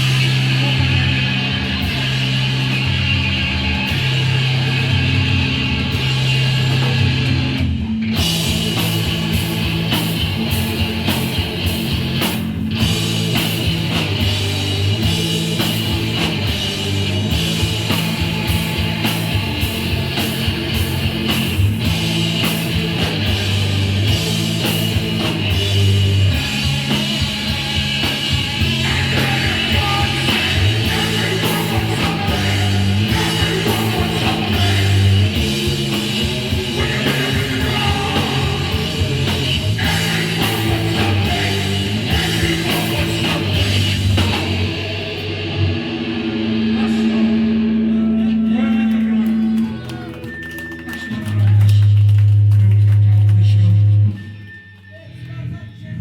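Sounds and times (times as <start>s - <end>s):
drums with cymbal hits: 0.0s - 48.0s
bass guitar: 0.0s - 56.0s
distorted electric guitar: 0.0s - 56.0s.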